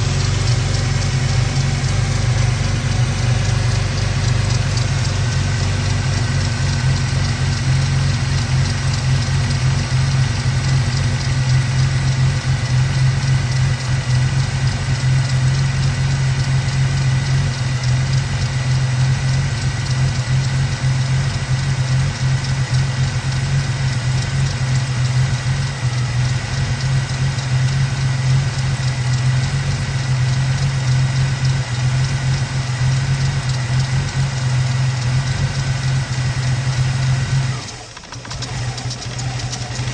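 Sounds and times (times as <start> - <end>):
car engine idling roughly: 0.0 - 39.9.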